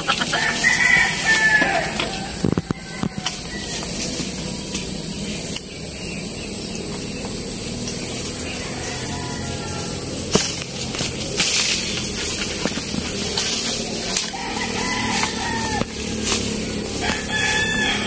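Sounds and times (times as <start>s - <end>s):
outdoor background hiss: 0.0s - 18.0s
thin high constant tone: 0.0s - 18.0s.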